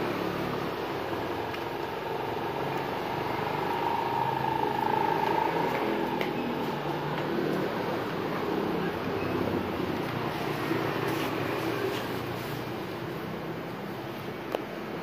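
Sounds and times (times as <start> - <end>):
vehicle noise: 0.0 - 15.0.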